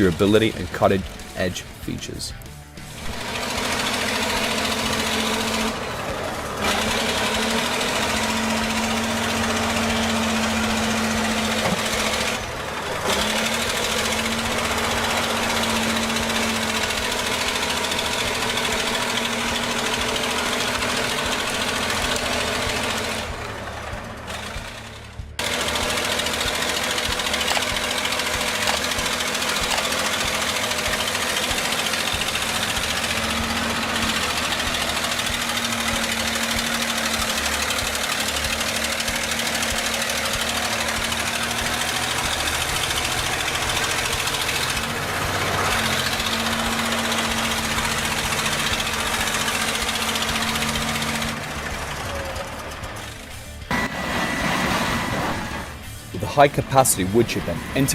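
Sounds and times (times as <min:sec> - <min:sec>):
grinding and rattling from cutting: 0:00.0 - 0:57.9
heavy machinery engine under load: 0:02.8 - 0:57.9.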